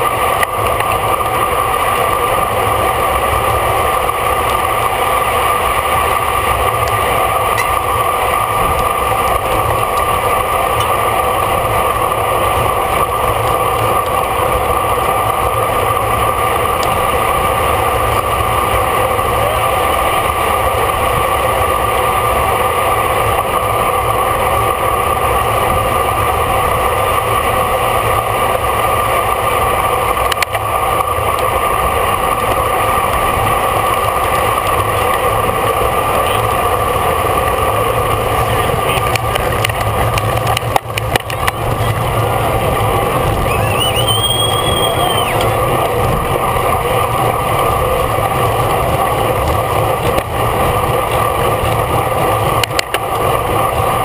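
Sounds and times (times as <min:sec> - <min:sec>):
bicycle road rumble: 0:00.0 - 0:54.0
constant hum: 0:00.0 - 0:54.0.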